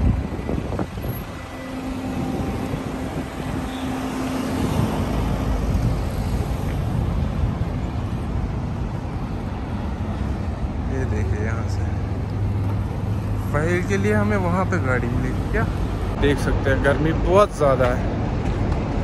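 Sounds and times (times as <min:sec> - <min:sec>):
cars driving past: 0:00.0 - 0:19.0
steady engine hum: 0:00.0 - 0:19.0.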